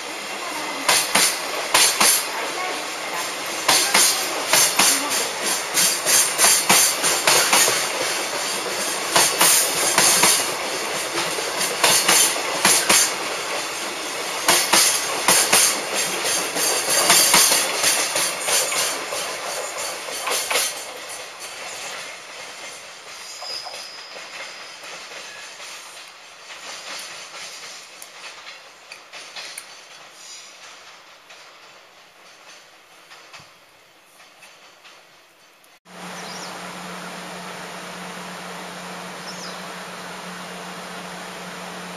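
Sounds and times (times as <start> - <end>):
train wheels clattering over rail joints: 0.8 - 35.6.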